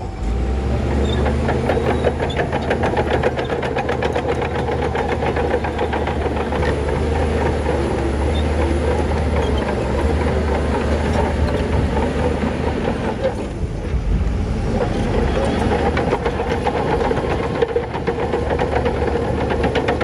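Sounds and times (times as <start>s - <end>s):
diesel machinery rumbling: 0.0s - 20.0s.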